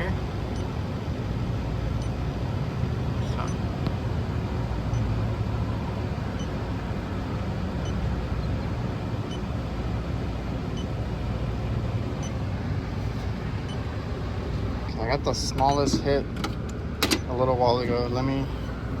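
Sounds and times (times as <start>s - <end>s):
air conditioner rumble: 0.0s - 19.0s.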